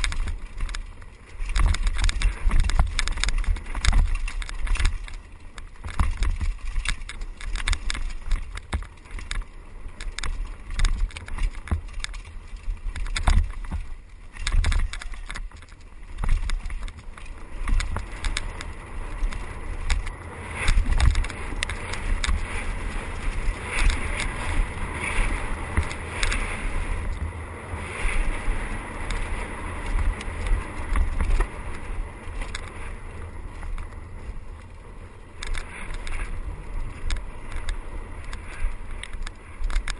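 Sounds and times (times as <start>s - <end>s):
bike clattering over bumps: 0.0s - 39.9s
tyres rolling over dirt: 0.0s - 39.9s
wind buffeting microphone: 0.0s - 39.9s.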